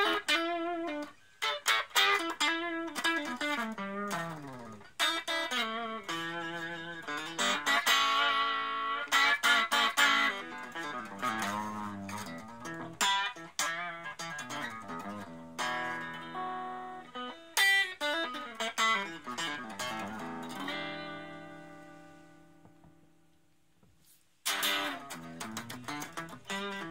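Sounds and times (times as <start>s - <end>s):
electric guitar playing: 0.0s - 23.1s, 24.4s - 26.9s.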